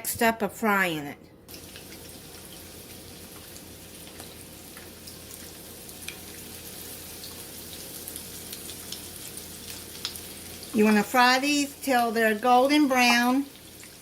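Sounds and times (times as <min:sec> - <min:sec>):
chicken sizzling in hot oil: 0:01.5 - 0:14.0.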